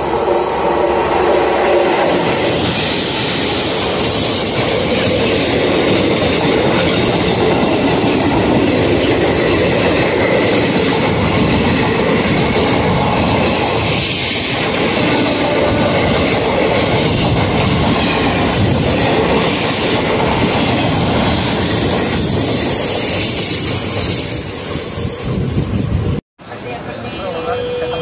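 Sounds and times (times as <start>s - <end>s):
train wheels clattering over rail joints: 1.9s - 25.5s.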